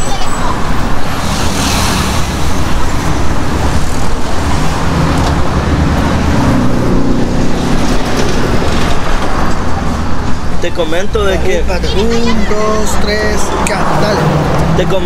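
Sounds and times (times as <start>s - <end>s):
cars and buses driving past: 0.0s - 15.0s.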